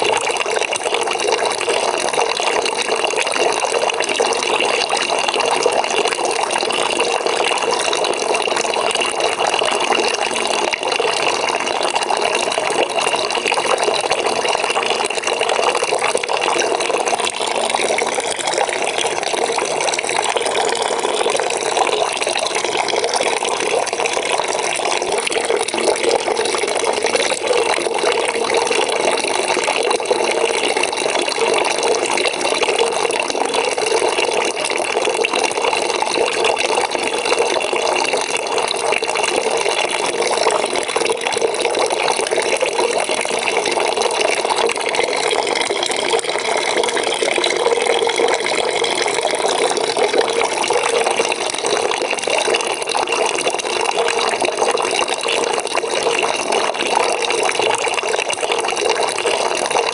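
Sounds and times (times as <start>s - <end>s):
tap water pouring into bucket: 0.0s - 59.9s.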